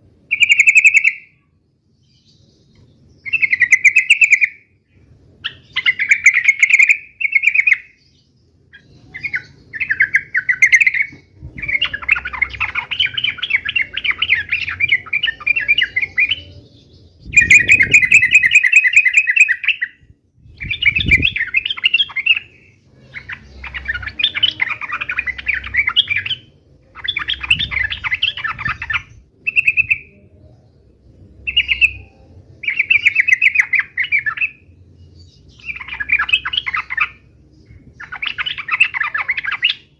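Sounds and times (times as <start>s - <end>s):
bulbul singing rapid chattering phrases: 5.4s - 8.1s, 8.7s - 30.3s, 31.4s - 39.9s.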